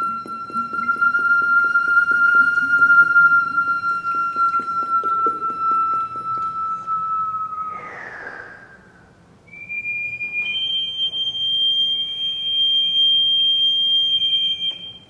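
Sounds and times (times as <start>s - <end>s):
whistle-like water instrument tones: 0.0s - 15.0s.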